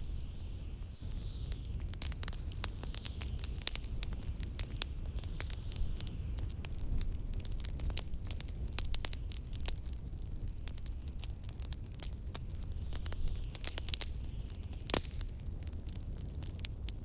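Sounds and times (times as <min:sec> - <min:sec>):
low rumble of blizzard wind: 0:00.0 - 0:17.0
wood fire crackling in fireplace: 0:00.0 - 0:17.0.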